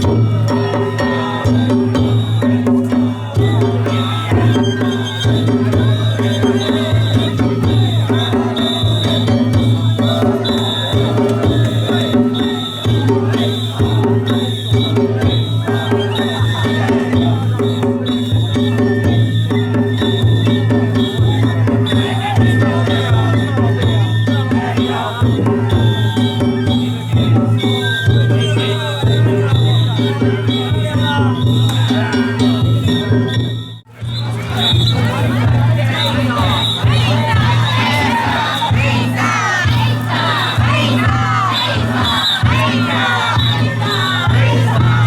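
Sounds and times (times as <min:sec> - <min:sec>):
taiko drums beating: 0:00.0 - 0:45.0.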